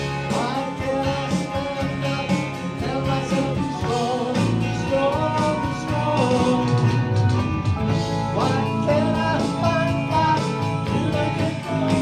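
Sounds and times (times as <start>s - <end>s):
man singing: 0.0s - 7.3s, 7.9s - 12.0s
drums: 0.0s - 12.0s
electric guitar: 0.0s - 12.0s.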